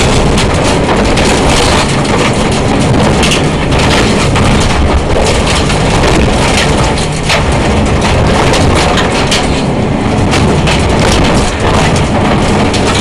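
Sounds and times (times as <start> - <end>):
gravel clattering: 0.0 - 13.0
rally car engine: 0.0 - 13.0.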